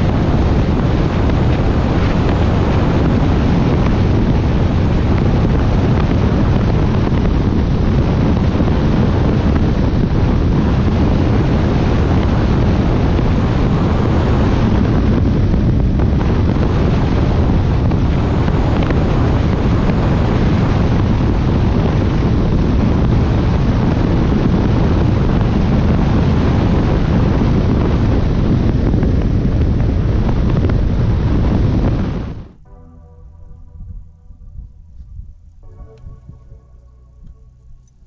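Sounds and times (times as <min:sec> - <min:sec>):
wind rushing over microphone: 0:00.0 - 0:32.8
boat running noise: 0:00.0 - 0:34.7.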